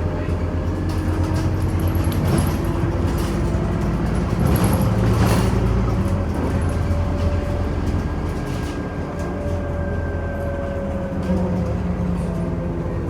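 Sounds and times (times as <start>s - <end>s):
bus engine drone with whine: 0.0s - 13.0s.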